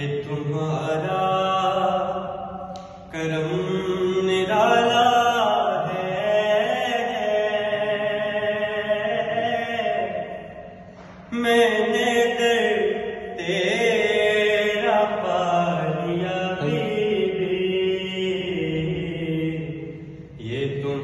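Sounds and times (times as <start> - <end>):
man chanting devotional poem: 0.0 - 21.0.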